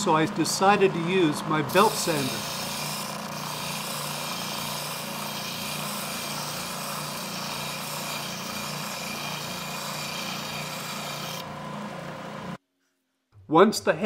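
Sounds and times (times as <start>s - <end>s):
belt sander grinding wood: 0.0s - 12.6s
belt sander motor hum: 0.0s - 12.6s.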